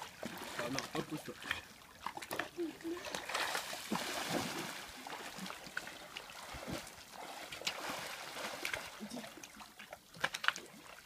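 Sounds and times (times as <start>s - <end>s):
pool water sloshing: 0.0s - 11.0s
small splashes and drips: 0.0s - 11.0s.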